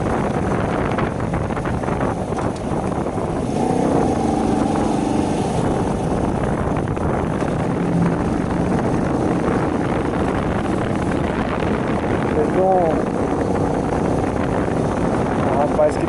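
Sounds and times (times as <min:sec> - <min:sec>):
motorcycle engine: 0:00.0 - 0:16.0
wind rumble on microphone: 0:00.0 - 0:16.0.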